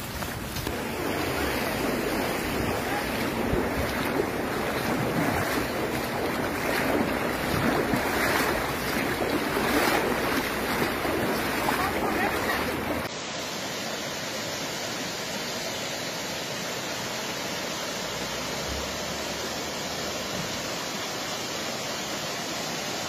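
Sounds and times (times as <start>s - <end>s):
floodwater flowing over ground: 0.0s - 23.0s.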